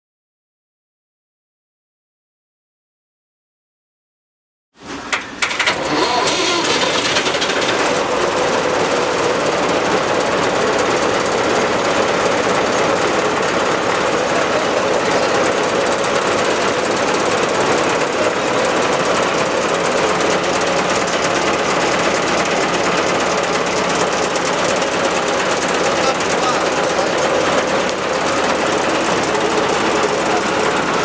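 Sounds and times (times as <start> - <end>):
road roller engine rattling: 4.8 - 31.0.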